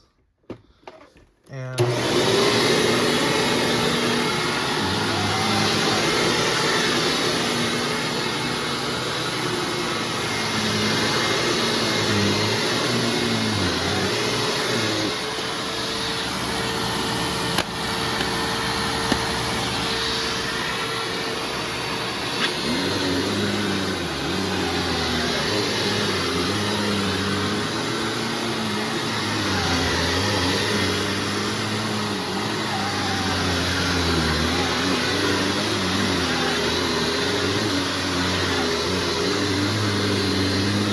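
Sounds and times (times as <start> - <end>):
upright vacuum running: 1.8 - 40.9.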